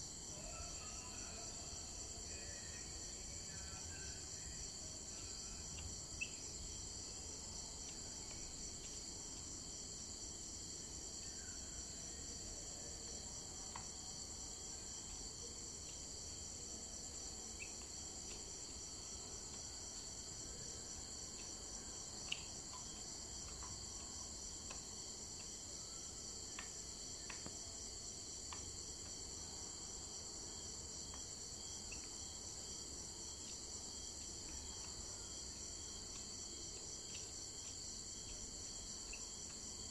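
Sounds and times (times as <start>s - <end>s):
insects trilling: 0.2s - 9.0s, 9.7s - 39.9s.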